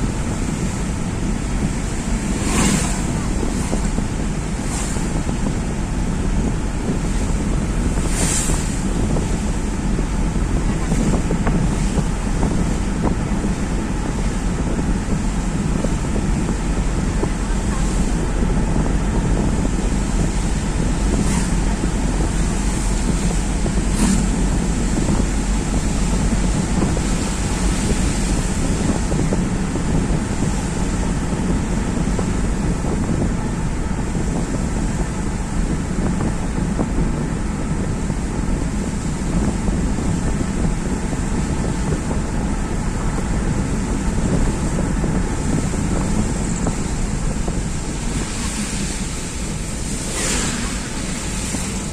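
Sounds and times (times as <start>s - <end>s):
highway road noise: 0.0s - 51.9s
wind noise on microphone: 0.0s - 51.9s.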